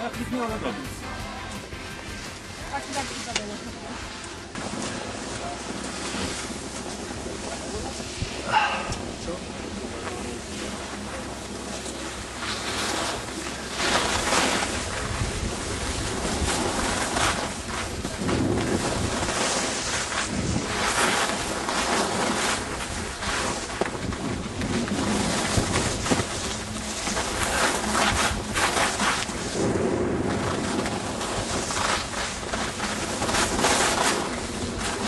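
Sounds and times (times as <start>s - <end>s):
skis scraping on snow: 0.3s - 35.0s
wind buffeting microphone: 2.3s - 35.0s.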